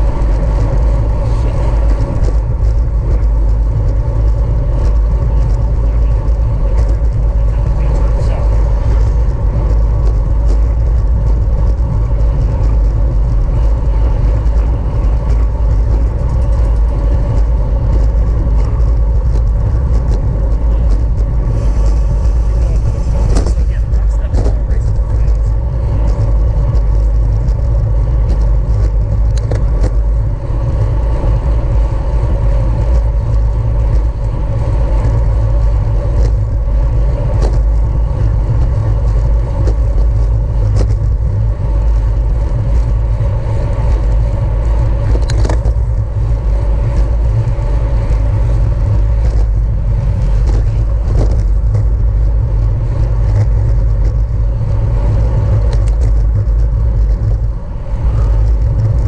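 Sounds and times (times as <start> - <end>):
bicycle clicks: 0.0 - 59.0
tyre and drivetrain hum: 0.0 - 59.0
wind buffeting microphone: 0.0 - 59.0.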